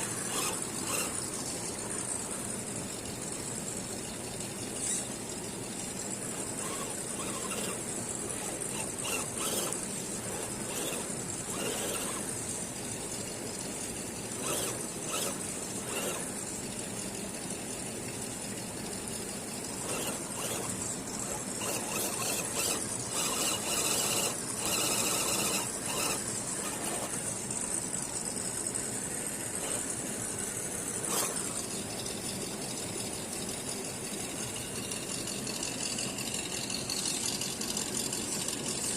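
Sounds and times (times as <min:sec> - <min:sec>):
rc car motor whining: 0:00.0 - 0:17.8, 0:18.4 - 0:38.9.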